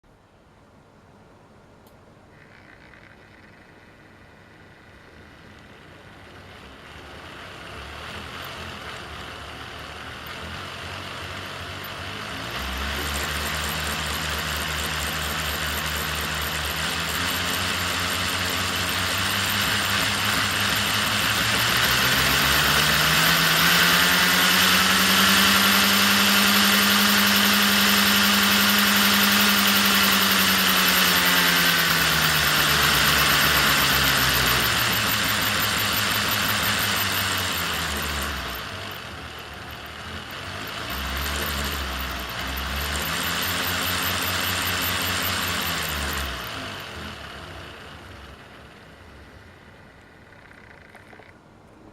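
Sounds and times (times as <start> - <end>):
model locomotive motor whine: 2.3 - 51.4.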